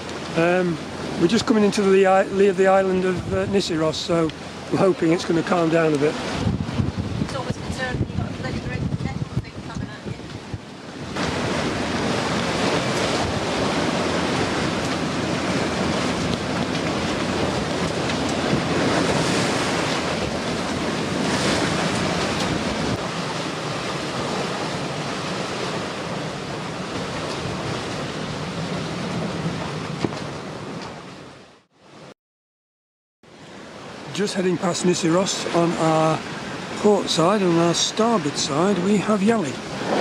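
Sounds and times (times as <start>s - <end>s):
water splashing along hull: 0.0s - 32.1s, 33.3s - 40.0s
wind gusting on microphone: 0.0s - 32.1s, 35.0s - 40.0s.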